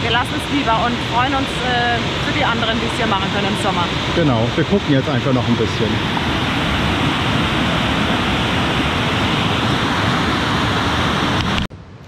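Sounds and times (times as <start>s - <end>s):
waterfall and rapids rushing: 0.0s - 11.7s.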